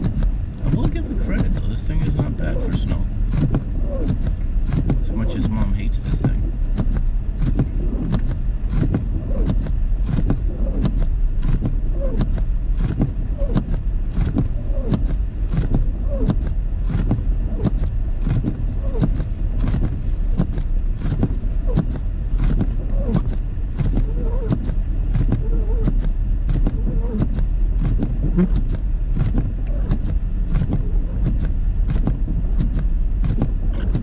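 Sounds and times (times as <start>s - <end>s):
car engine and tyres rumbling: 0.0s - 34.0s.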